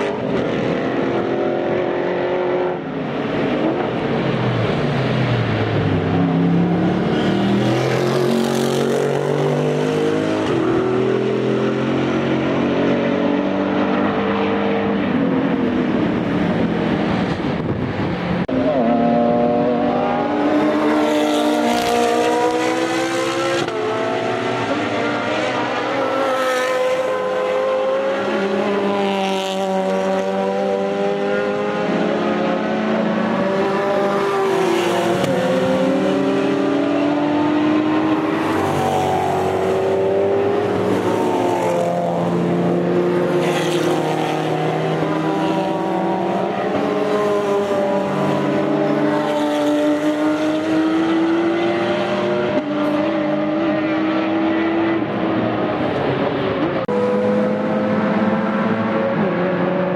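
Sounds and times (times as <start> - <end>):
racing cars passing by: 0.0 - 59.9.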